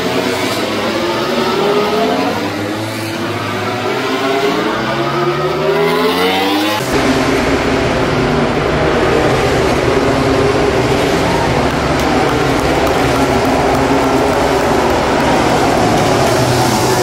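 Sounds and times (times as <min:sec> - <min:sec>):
race motorcycles accelerating: 0:00.0 - 0:17.0.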